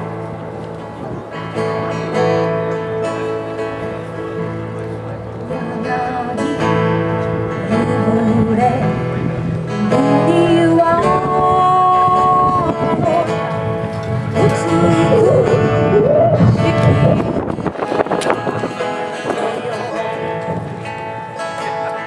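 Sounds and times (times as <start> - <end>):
bluegrass band playing: 0.0 - 22.0
melody with long held notes: 0.0 - 22.0
strummed acoustic guitar: 0.0 - 22.0.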